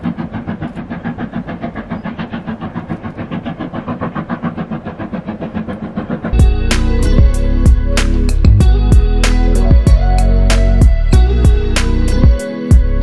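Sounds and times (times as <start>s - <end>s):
low steady train rumble: 0.0s - 13.0s
steam locomotive exhaust chuffing: 0.0s - 13.0s.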